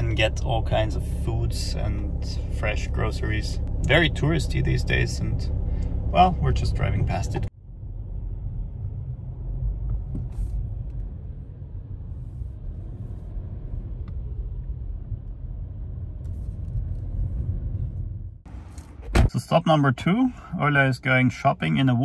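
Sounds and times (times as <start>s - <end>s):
car rumble inside cabin: 0.0s - 19.4s.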